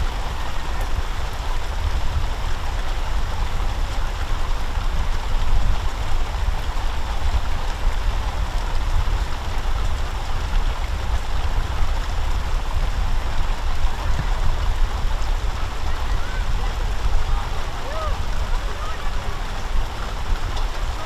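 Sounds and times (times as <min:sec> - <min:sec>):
rushing noise with low rumble: 0:00.0 - 0:21.0.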